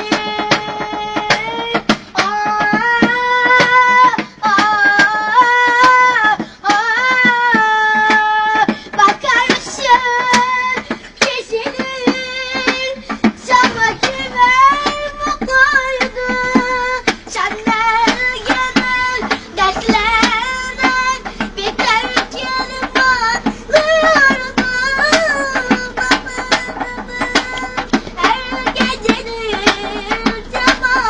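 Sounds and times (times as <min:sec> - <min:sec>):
boy singing unaccompanied: 0:00.0 - 0:31.0
tapped clicking beat: 0:00.0 - 0:31.0.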